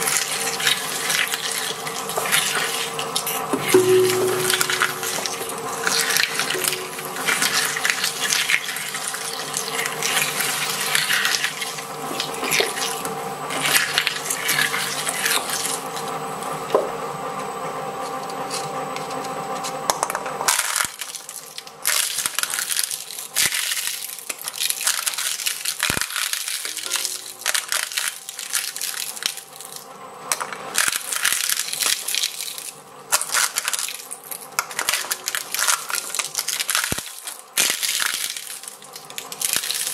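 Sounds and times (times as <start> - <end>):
shredder crunching potato: 0.0 - 3.8, 5.8 - 16.7, 17.9 - 39.9.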